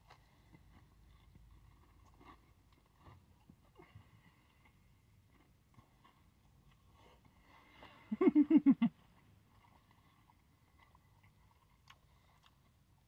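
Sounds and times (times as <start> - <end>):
man chewing crispy food: 0.0 - 8.0, 9.3 - 13.0.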